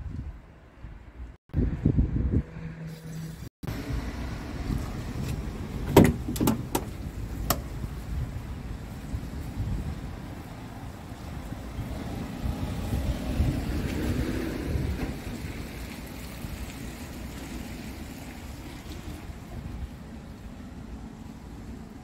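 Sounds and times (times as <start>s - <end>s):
wind buffeting microphone: 0.0s - 2.8s, 3.6s - 20.6s.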